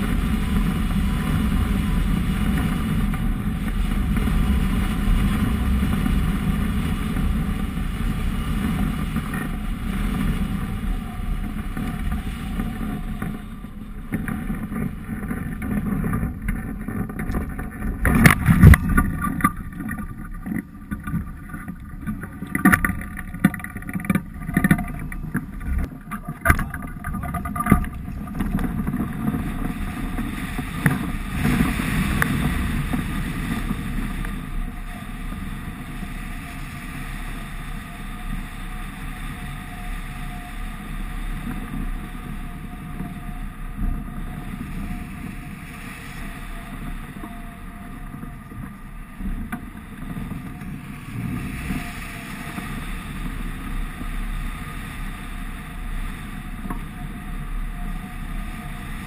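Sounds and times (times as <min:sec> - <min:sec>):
wind rushing over camera: 0:00.0 - 0:59.0.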